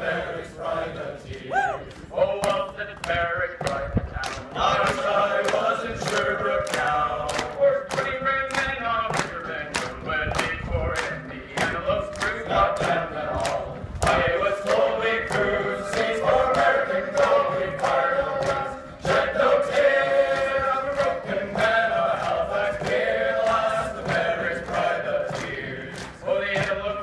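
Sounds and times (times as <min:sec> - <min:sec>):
group singing a cappella: 0:00.0 - 0:01.5, 0:04.6 - 0:27.0.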